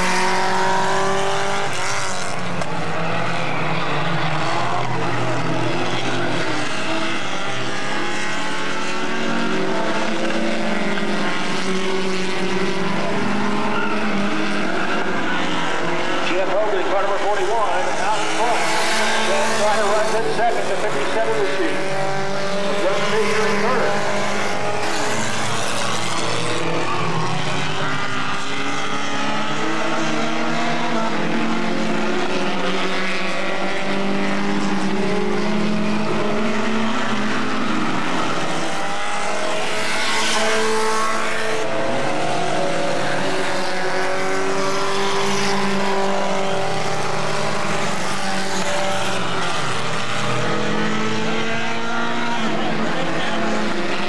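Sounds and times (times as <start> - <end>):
racing car engines droning: 0.0 - 54.0.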